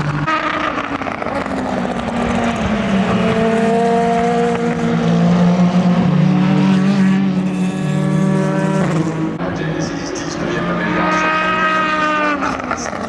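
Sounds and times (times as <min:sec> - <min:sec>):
engine note rising in pitch: 0:00.0 - 0:13.0
race car engines: 0:00.0 - 0:13.0.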